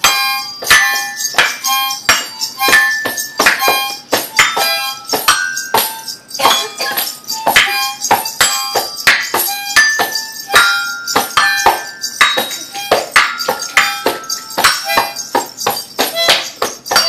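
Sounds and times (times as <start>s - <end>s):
glockenspiel notes: 0.0s - 17.0s
tambourine jingling: 0.0s - 17.0s
toy harmonica: 0.0s - 17.0s.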